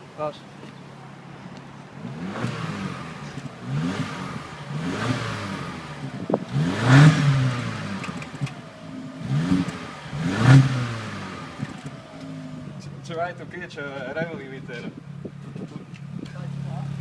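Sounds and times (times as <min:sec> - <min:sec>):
car engine revving: 0:01.8 - 0:17.0.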